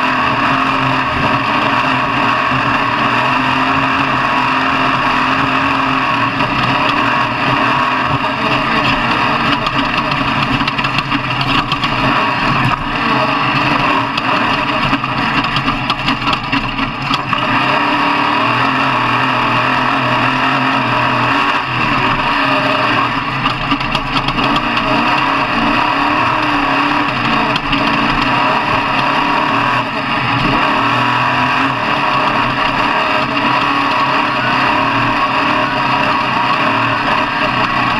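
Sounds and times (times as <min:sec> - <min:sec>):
truck engine running hard: 0:00.0 - 0:37.9.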